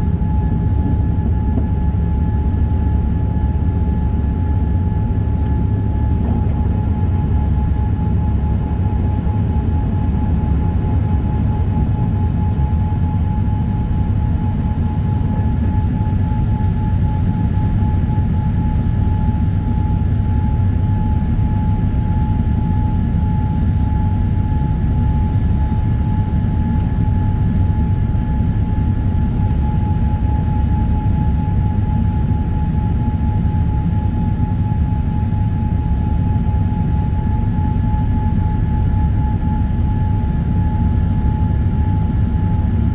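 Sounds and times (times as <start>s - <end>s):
low rumble of engines and airflow: 0.0s - 42.9s.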